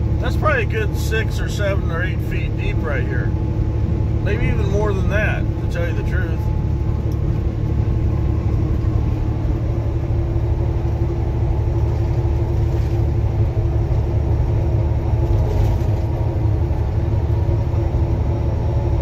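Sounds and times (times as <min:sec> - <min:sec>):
constant droning hum: 0:00.0 - 0:19.0
truck engine and road rumble: 0:00.0 - 0:19.0.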